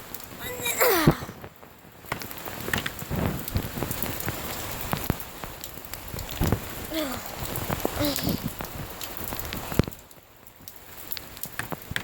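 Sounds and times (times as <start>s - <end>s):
heavy rain falling: 0.0s - 12.0s
raindrops ticking close by: 0.0s - 12.0s.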